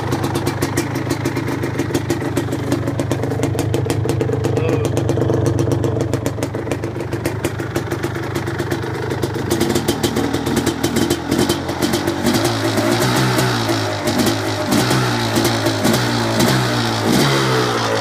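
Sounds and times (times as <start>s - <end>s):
two-stroke engine idling: 0.0s - 18.0s.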